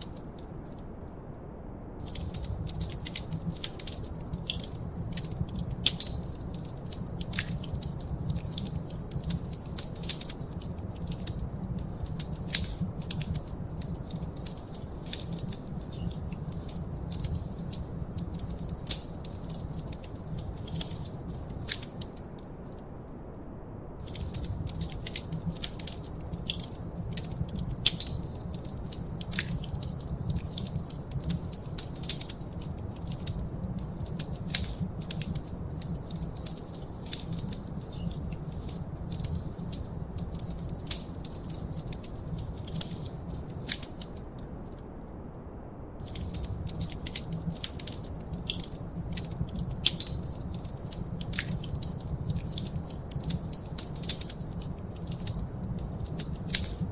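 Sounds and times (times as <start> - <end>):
wood fire crackling and popping: 0.0 - 1.2, 2.0 - 22.8, 24.0 - 44.9, 46.0 - 56.9
low rumble of flames: 0.0 - 56.9.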